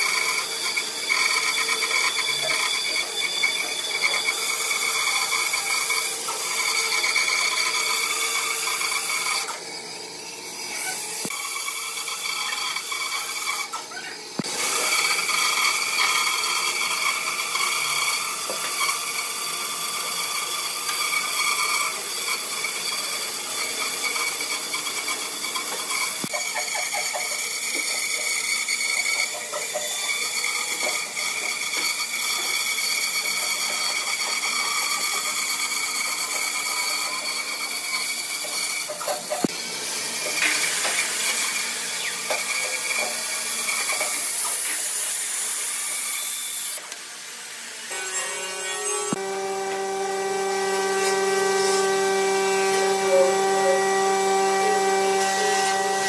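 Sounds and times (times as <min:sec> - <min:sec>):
bandsaw cutting wood: 0:00.0 - 0:56.0.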